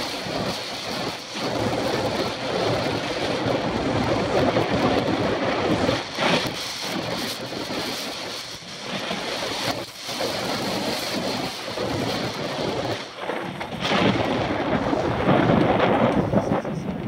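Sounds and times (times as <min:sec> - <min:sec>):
mountain bike rumble and rattle: 0:00.0 - 0:17.0
wind buffeting microphone: 0:00.0 - 0:17.0.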